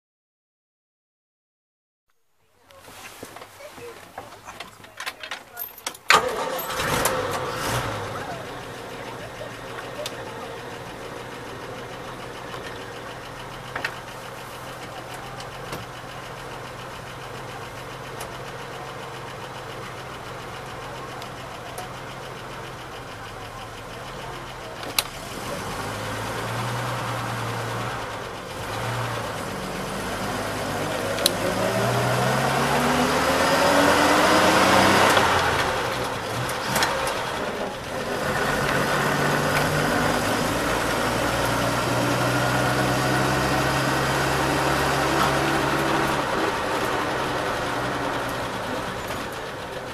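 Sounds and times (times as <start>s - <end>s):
bus engine idling and accelerating: 2.6s - 49.9s.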